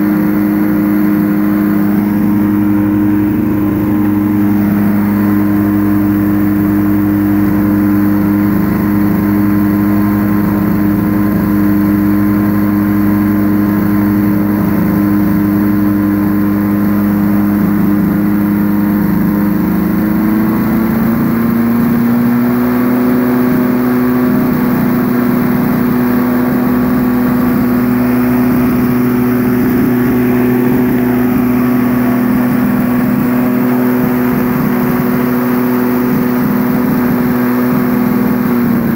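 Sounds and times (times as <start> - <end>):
ultralight aircraft engine running: 0.0 - 38.9.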